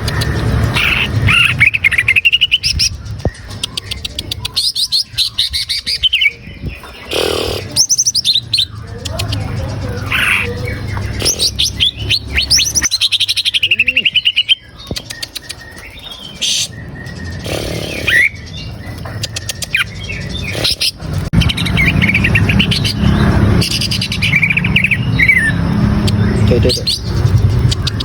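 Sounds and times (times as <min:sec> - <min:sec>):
bird singing chirps and whistles: 0:00.0 - 0:28.0.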